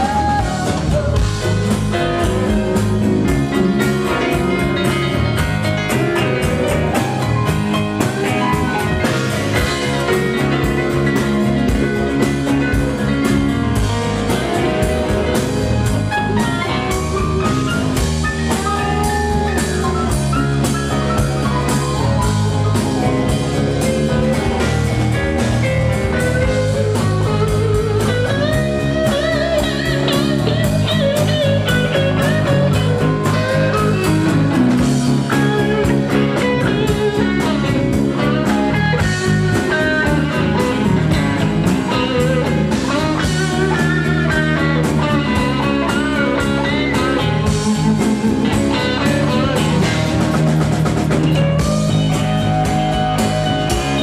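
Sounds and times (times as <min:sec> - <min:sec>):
blues band playing: 0:00.0 - 0:54.0
lead guitar bending notes: 0:00.0 - 0:54.0.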